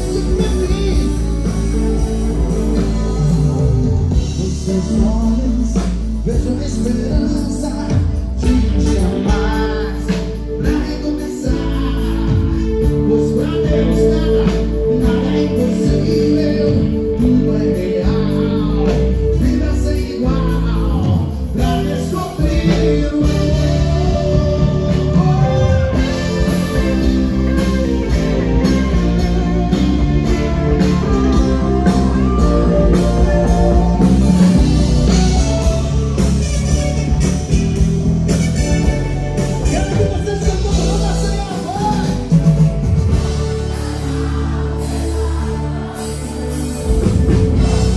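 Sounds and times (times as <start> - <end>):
man singing: 0.0 - 2.5, 3.1 - 36.0, 39.4 - 47.9
bass guitar: 0.0 - 47.9
drums: 0.0 - 47.9
electric guitars: 0.0 - 47.9.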